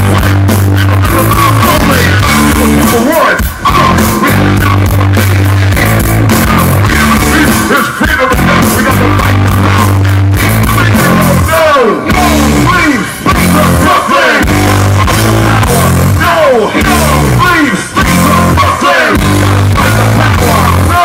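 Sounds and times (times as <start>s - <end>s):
rap rock band playing: 0.0s - 21.0s
shouted rap vocals: 0.0s - 21.0s.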